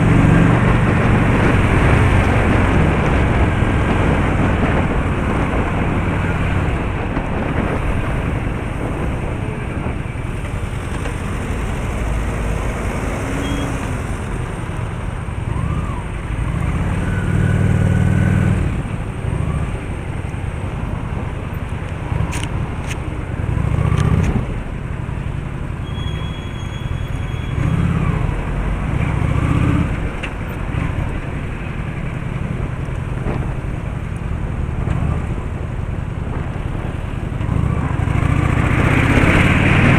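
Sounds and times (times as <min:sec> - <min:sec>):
car engines and tyres: 0:00.0 - 0:39.9
vehicles passing by: 0:00.0 - 0:39.9.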